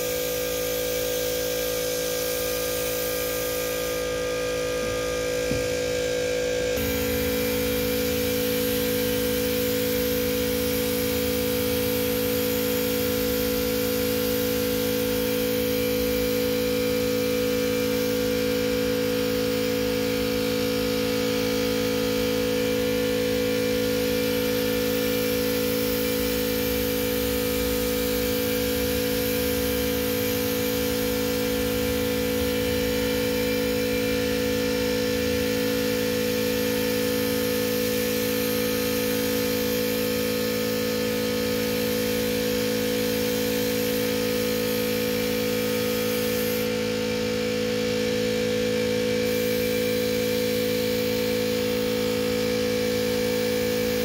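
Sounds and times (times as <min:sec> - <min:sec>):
air compressor humming: 0:00.0 - 0:54.0.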